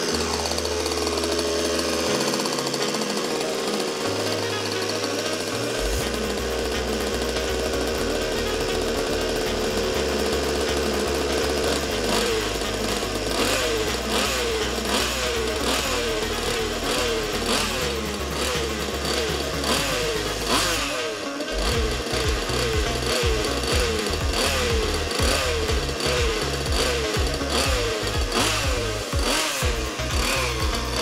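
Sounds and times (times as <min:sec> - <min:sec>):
model car two-stroke engine: 0:00.0 - 0:31.0.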